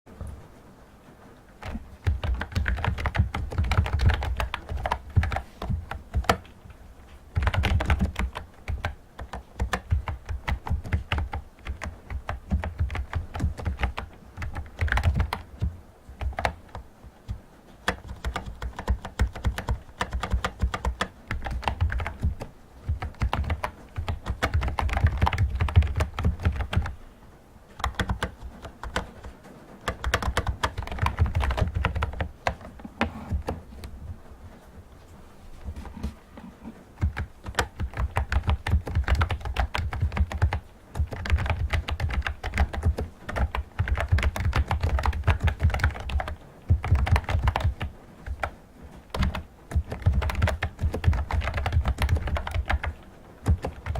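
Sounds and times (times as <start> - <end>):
fast typing on keyboard: 1.6 - 27.0, 27.7 - 33.6, 37.0 - 53.9.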